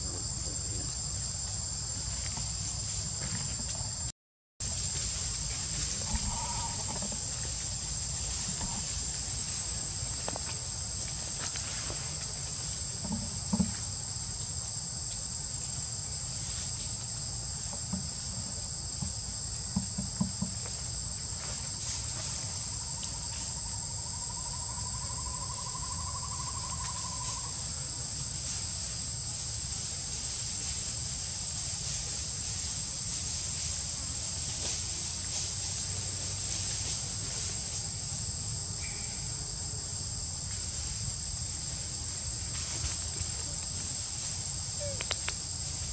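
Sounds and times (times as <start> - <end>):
high-pitched insect chorus: 0.0 - 45.9.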